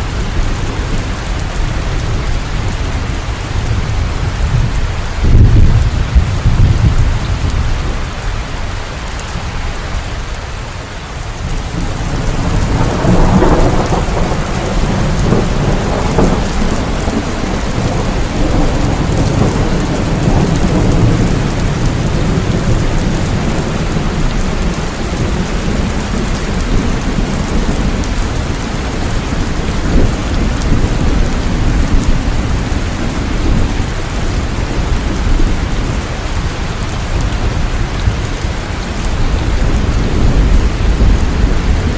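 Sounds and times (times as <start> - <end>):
thunder rumbling: 0.0 - 8.7, 11.3 - 41.9
heavy rain: 0.0 - 41.9.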